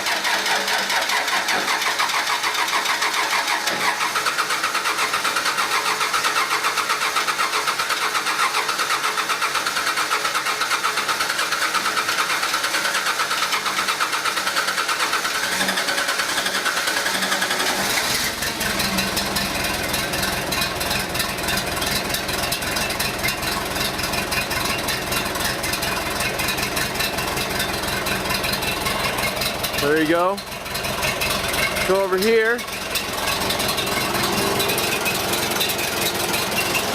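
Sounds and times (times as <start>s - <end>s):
diesel engine cranking: 0.0s - 36.9s
diesel engine running: 0.0s - 36.9s.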